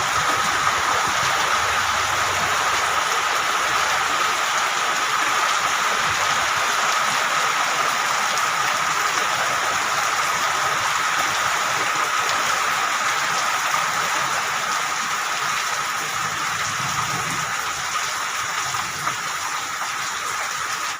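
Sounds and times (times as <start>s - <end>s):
heavy rain on a metal roof: 0.0s - 20.9s.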